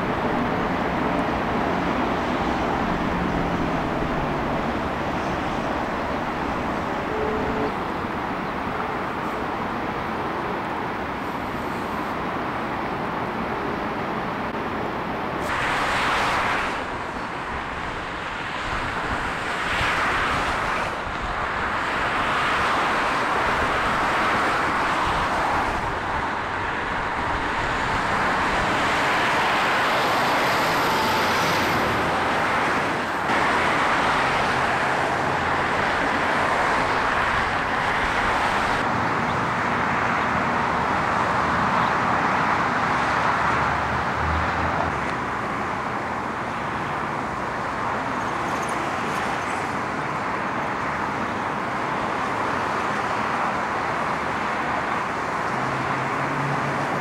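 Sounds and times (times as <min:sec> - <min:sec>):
freeway traffic rushing: 0:00.0 - 0:57.0.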